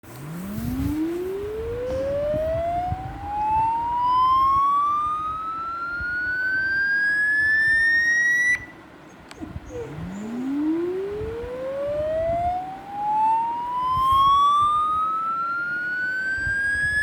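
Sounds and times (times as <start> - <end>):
electronic tone rising in pitch: 0.1 - 8.8, 9.7 - 17.0.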